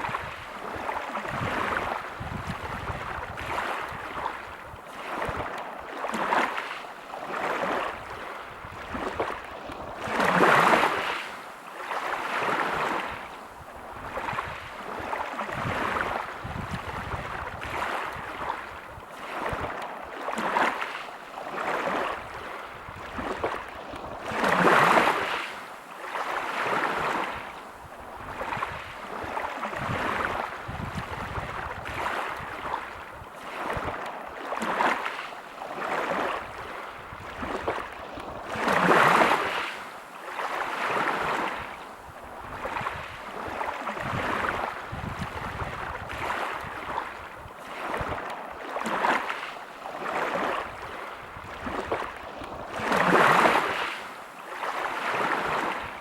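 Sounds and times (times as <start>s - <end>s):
waves breaking on pebble beach: 0.0s - 13.3s, 14.0s - 27.5s, 28.3s - 41.8s, 42.5s - 56.0s.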